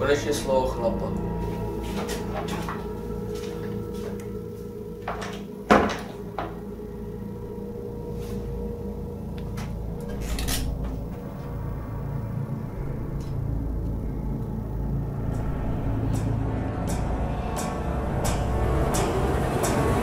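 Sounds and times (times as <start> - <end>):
steady low drone: 0.0 - 20.0.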